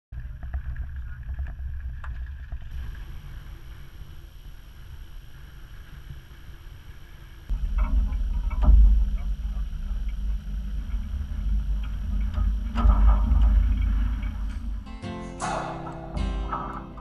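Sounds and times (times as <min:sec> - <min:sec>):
steady low rumble: 0:00.2 - 0:17.0.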